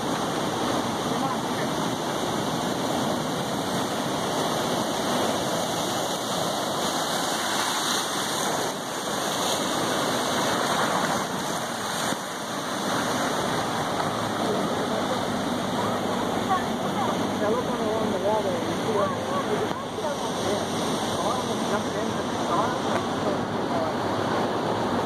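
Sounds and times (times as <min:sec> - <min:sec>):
surf washing over rocks: 0:00.0 - 0:25.0.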